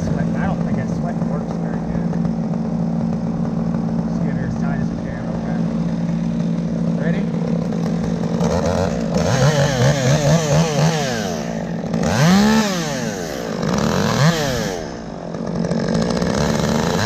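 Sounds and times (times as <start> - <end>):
chainsaw revving: 0.0 - 17.0
engine humming: 0.0 - 17.0.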